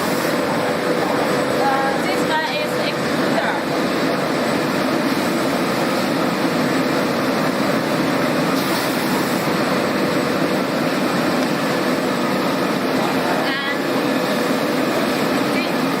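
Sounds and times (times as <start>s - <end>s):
production line machinery hum: 0.0s - 16.0s.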